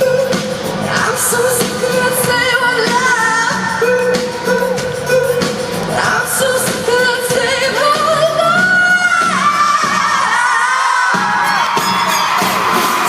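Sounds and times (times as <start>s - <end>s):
crowd noise: 0.0s - 13.0s
person singing pop song: 0.0s - 13.0s.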